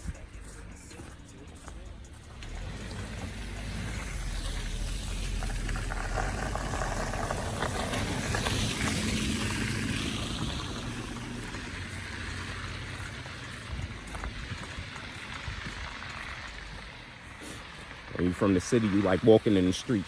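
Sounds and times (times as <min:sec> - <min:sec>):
car engine hum: 0:00.0 - 0:18.2
tyres hissing through slush: 0:00.0 - 0:20.0.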